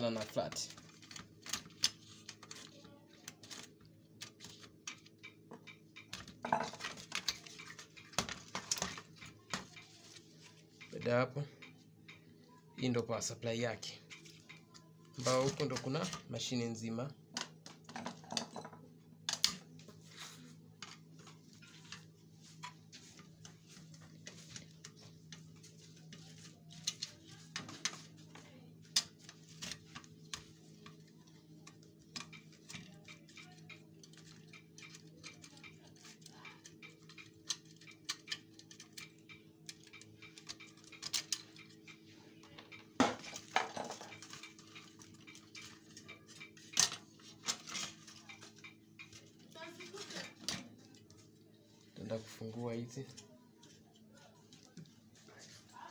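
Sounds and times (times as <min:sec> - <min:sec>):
clicks and clinks of parts handled: 0:00.2 - 0:12.3, 0:17.3 - 0:31.0, 0:31.6 - 0:51.3.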